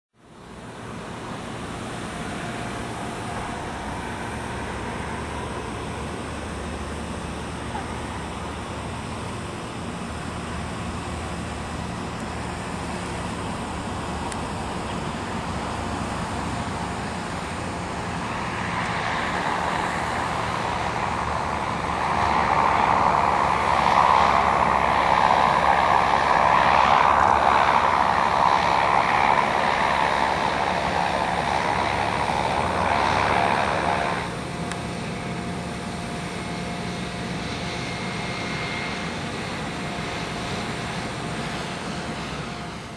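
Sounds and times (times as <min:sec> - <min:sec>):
turboprop plane engine: 0:00.1 - 0:42.9.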